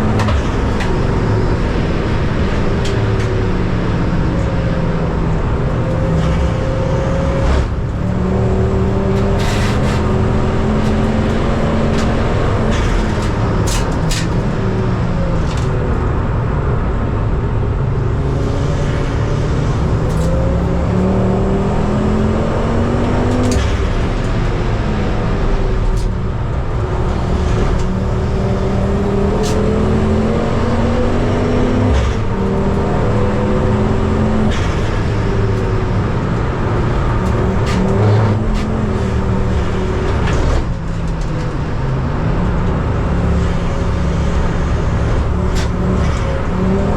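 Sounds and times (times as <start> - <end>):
racing car engine revving: 0.0 - 46.9.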